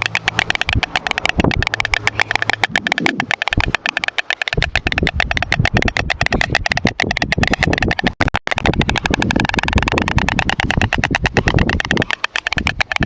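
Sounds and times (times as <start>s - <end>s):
storks clattering bills: 0.0s - 13.0s.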